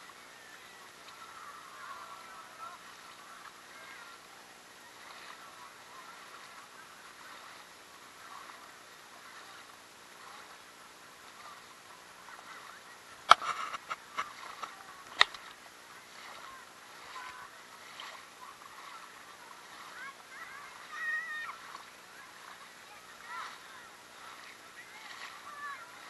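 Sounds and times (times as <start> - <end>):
distant voices of people playing: 0.0 - 26.0.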